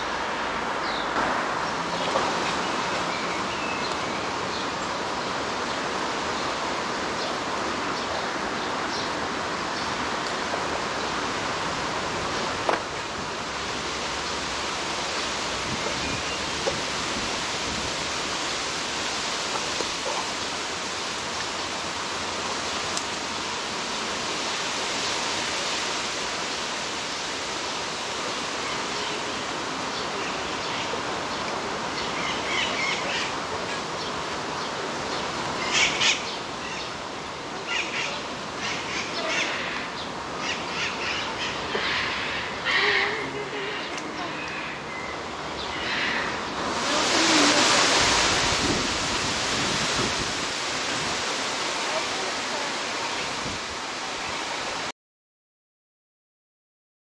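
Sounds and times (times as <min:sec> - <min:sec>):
steady rushing noise: 0:00.0 - 0:54.9.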